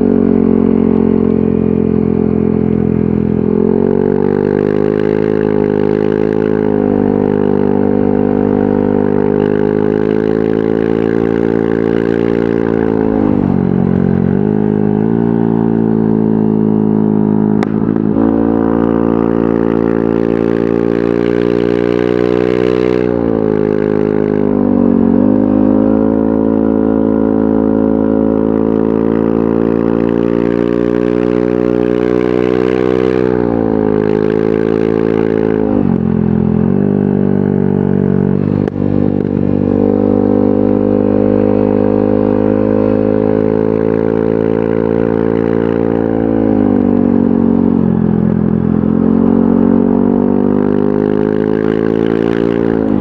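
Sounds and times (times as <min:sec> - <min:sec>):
scooter engine running: 0:00.0 - 0:53.0.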